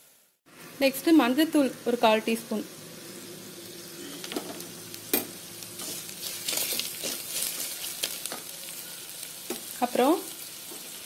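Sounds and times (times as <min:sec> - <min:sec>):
onions frying in oil sizzling: 0:00.0 - 0:11.0.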